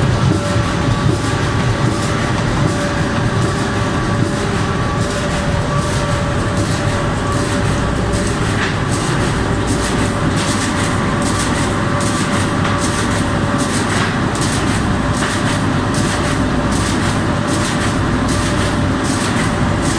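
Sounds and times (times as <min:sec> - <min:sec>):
machine clatter: 0:00.0 - 0:19.9
machine humming: 0:00.0 - 0:19.9.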